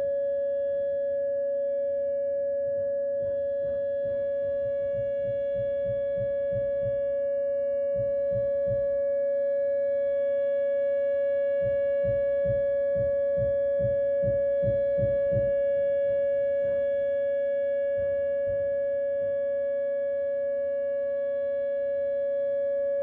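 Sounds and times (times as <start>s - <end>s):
warning siren steady tone: 0.0s - 23.0s.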